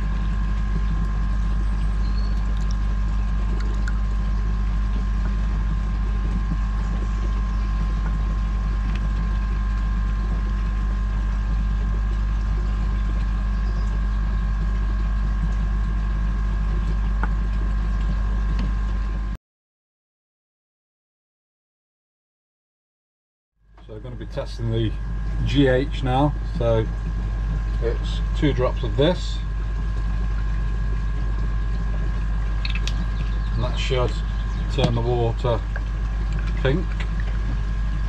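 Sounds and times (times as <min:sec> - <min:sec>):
faint whine tones: 0:00.0 - 0:19.4, 0:23.7 - 0:38.0
low motor drone: 0:00.0 - 0:19.4, 0:23.7 - 0:38.0.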